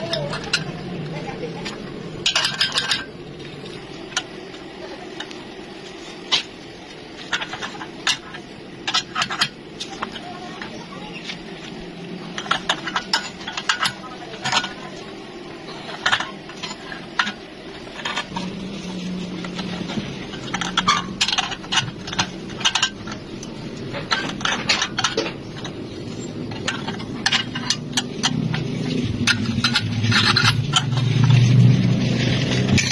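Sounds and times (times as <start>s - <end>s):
low hum: 0.0s - 32.9s.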